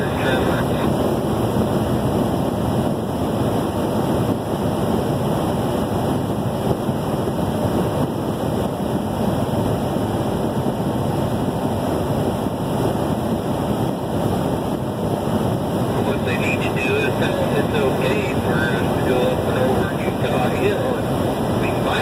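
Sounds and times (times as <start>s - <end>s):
wind against vehicle: 0.0s - 22.0s.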